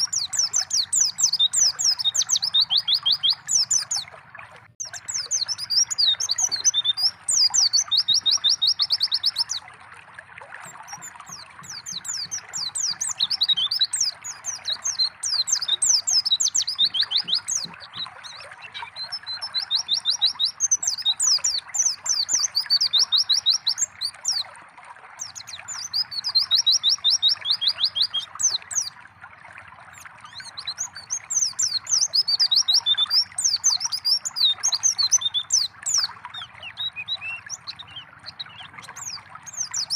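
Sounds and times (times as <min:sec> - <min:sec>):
bird twittering with trills: 0:00.0 - 0:04.2, 0:04.8 - 0:09.7, 0:10.6 - 0:24.5, 0:25.2 - 0:29.0, 0:29.9 - 0:39.9
water trickling: 0:00.0 - 0:39.9.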